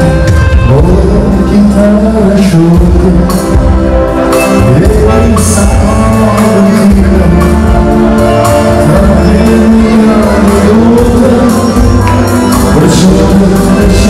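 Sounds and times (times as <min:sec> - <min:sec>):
song with singing voice: 0:00.0 - 0:14.0
steady bass line: 0:00.0 - 0:14.0.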